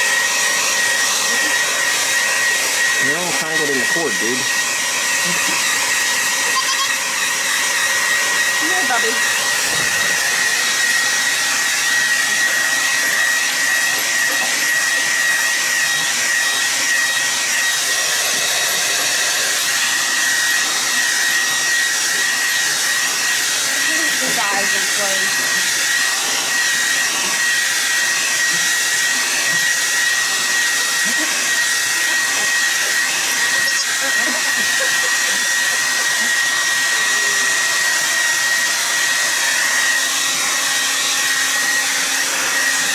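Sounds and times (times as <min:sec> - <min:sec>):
hair dryer blowing: 0:00.0 - 0:42.9.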